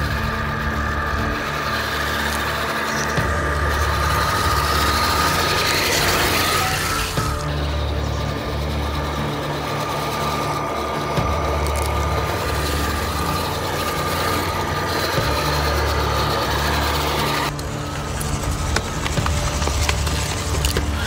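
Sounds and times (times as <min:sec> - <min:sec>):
toy truck motor whine: 0:00.0 - 0:21.0
tracks rattling over rocks: 0:00.0 - 0:21.0.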